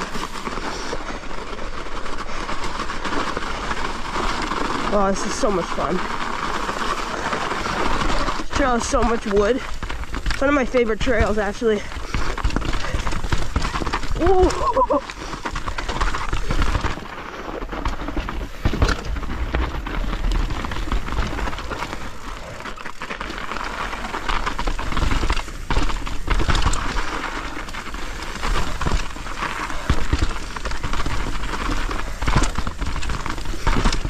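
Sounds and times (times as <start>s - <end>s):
bike knocking and rattling: 0.0s - 34.0s
bike rushing noise: 0.0s - 34.0s.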